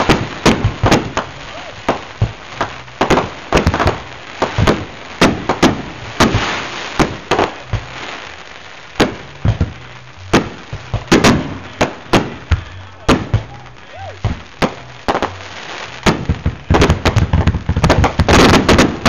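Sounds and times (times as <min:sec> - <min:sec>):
fireworks bangs: 0:00.0 - 0:19.0
fireworks hissing crackle: 0:00.0 - 0:19.0.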